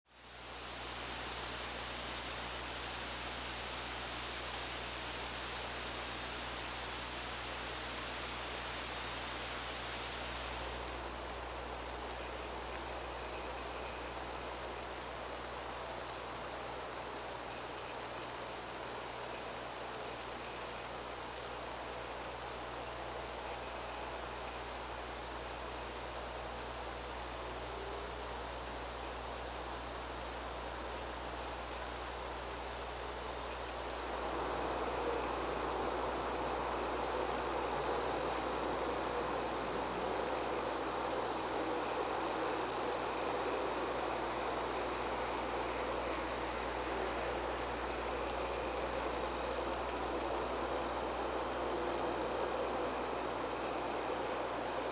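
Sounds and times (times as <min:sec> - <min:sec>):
background hiss: 0:00.2 - 0:54.9
crickets trilling: 0:07.9 - 0:54.9.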